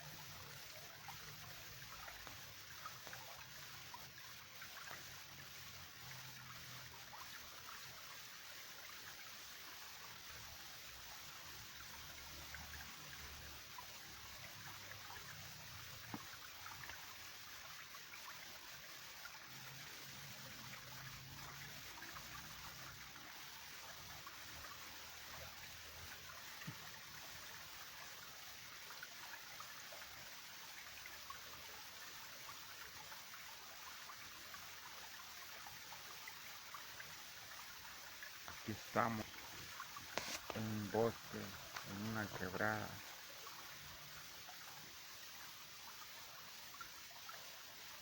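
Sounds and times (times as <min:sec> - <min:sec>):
stream trickling: 0:00.0 - 0:48.0.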